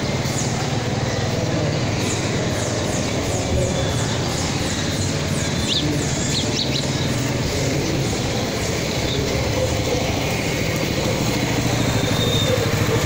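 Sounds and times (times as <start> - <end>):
motor traffic: 0.0 - 13.0
motorcycle engine rumbling: 0.0 - 13.0.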